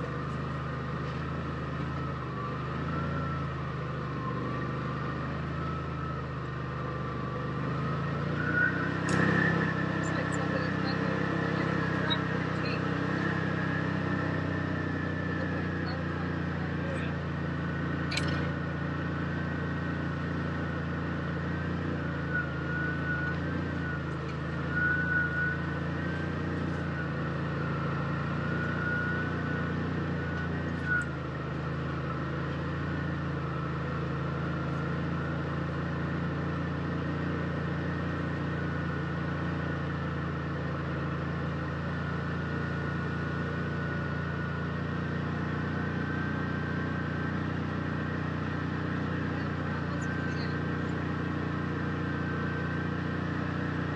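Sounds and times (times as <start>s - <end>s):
low engine drone: 0.0s - 53.9s
high wavering whine: 1.1s - 53.9s.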